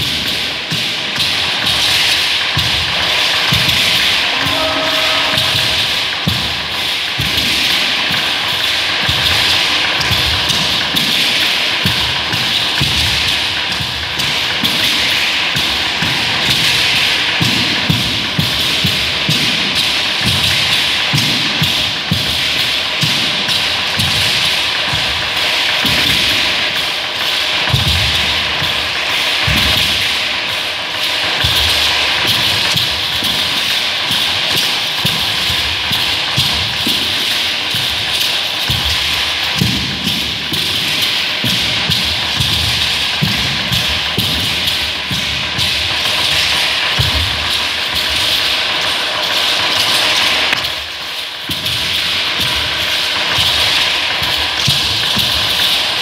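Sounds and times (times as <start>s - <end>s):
wooden drum beaten with sticks: 0.1s - 30.6s, 31.4s - 56.0s.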